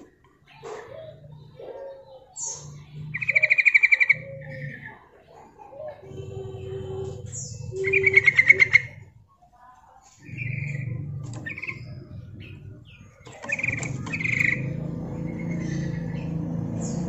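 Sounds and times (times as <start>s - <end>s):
bird chirping calls: 0.0s - 17.0s.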